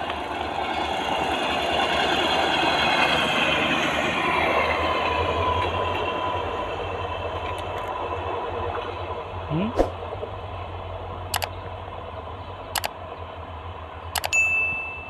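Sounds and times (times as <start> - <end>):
rail trolley engine hum: 0.0 - 15.0.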